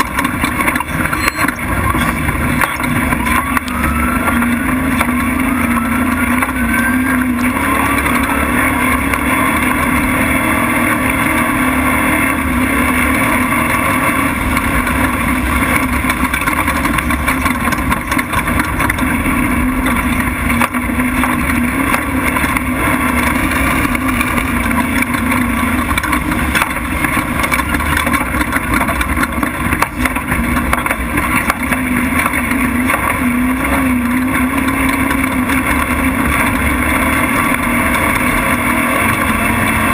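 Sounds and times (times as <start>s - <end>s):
truck engine running at high revs: 0.0s - 39.9s
truck rumbling on rough dirt: 0.0s - 39.9s.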